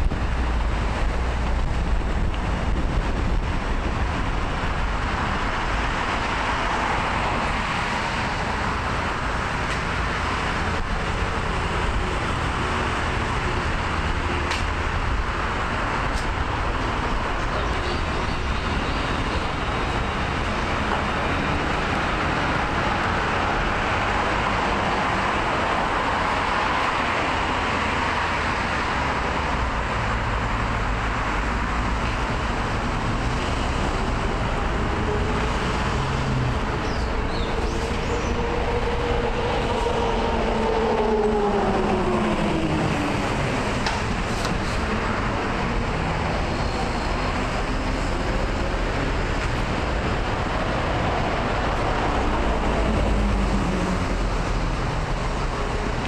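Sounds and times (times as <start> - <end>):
cars passing: 0.0 - 56.0.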